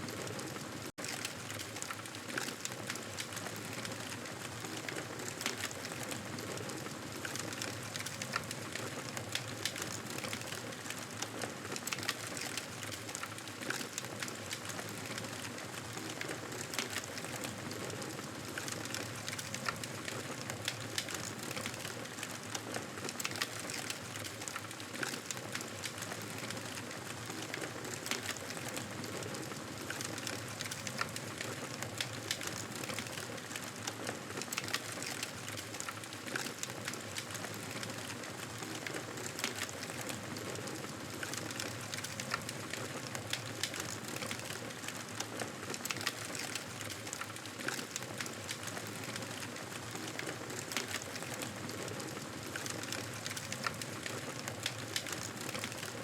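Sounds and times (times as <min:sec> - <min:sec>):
campfire crackling: 0:00.5 - 0:56.0.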